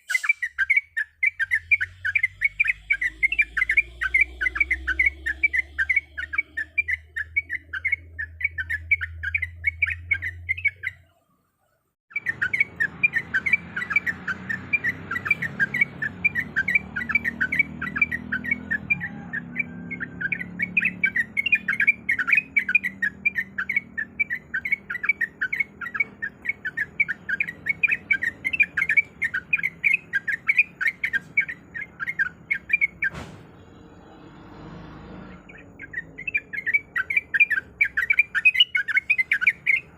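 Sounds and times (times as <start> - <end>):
bird singing fast chatter: 0.0 - 11.1, 12.1 - 39.9.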